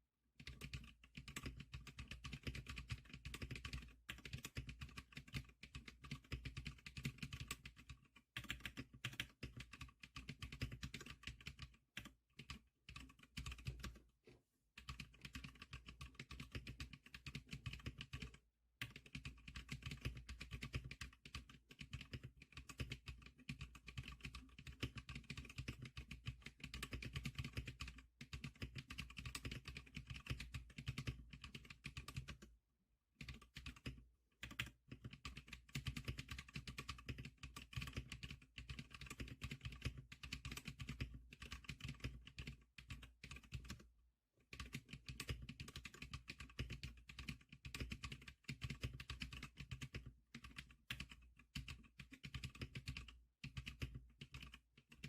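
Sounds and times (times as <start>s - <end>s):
rapid keyboard typing: 0.4s - 14.1s, 14.8s - 32.6s, 33.2s - 55.0s.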